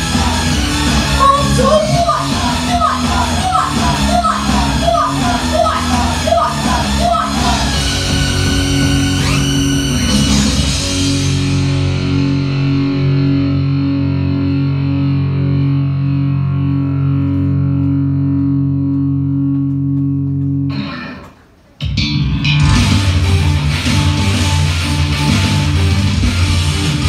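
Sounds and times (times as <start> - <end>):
rock music with distorted guitar: 0.0 - 27.0.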